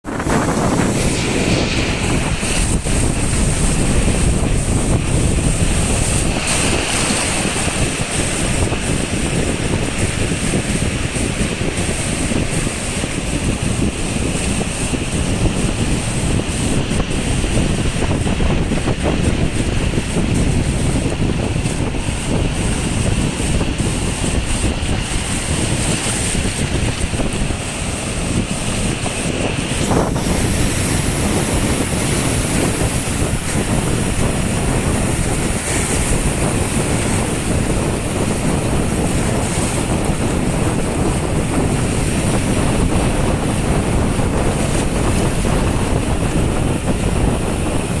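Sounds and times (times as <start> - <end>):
waves washing against shore: 0.0 - 48.0
wind buffeting microphone: 0.0 - 48.0.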